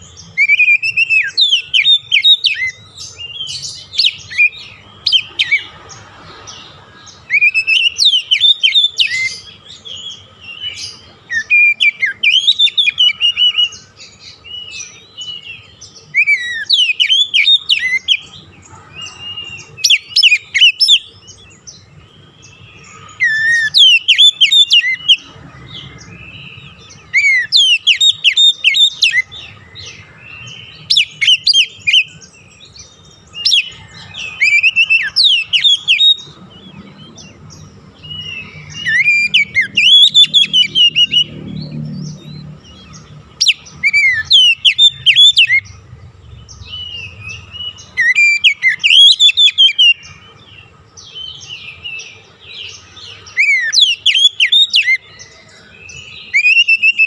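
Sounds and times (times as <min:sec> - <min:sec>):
bird singing whistled notes: 0:00.0 - 0:57.0.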